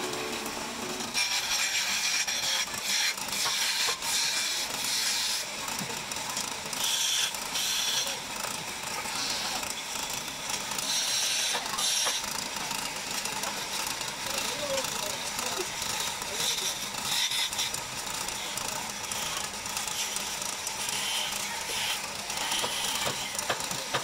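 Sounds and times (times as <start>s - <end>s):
chisel scraping spinning wood: 0.0s - 24.0s
wood lathe running: 0.0s - 24.0s.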